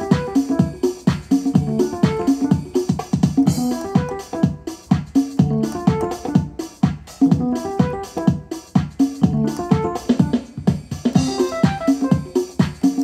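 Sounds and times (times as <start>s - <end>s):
keyboard music with steady beat: 0.0s - 13.0s.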